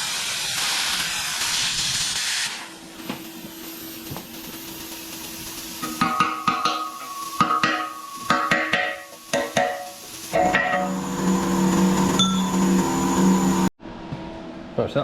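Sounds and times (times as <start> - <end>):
plasma cutter hissing: 0.0 - 12.1.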